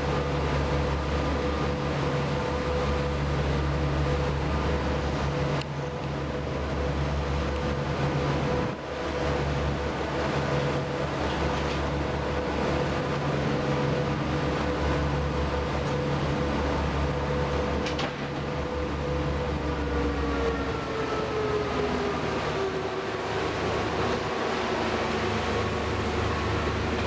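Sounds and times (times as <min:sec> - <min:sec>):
ferry engines droning: 0:00.0 - 0:27.0
hiss of wind and water: 0:00.0 - 0:27.0.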